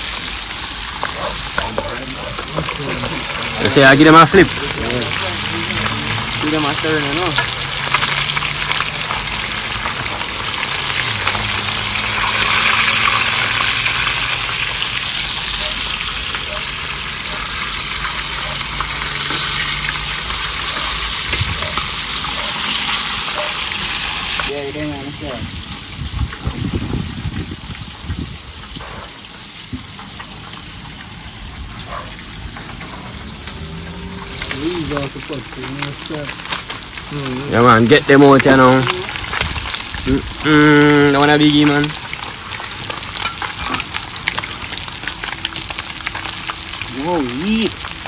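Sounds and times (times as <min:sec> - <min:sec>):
fish sizzling in hot oil: 0:00.0 - 0:48.0.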